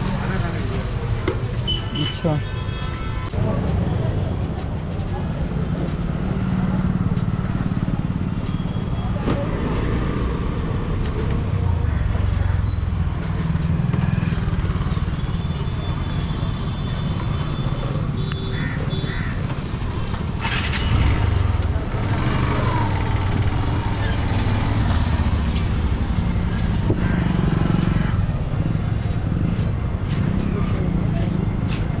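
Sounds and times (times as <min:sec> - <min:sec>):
motorcycles and scooters passing: 0:03.5 - 0:15.1, 0:17.0 - 0:32.0.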